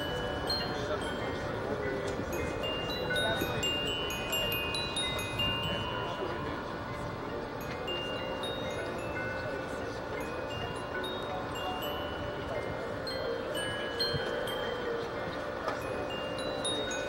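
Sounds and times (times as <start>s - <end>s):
chimes ringing: 0.0s - 17.0s
low crowd murmur: 0.0s - 17.0s.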